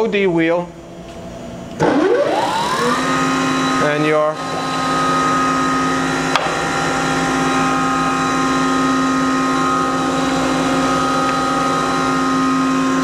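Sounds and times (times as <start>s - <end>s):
grinding machine humming and whining: 0.7s - 13.0s.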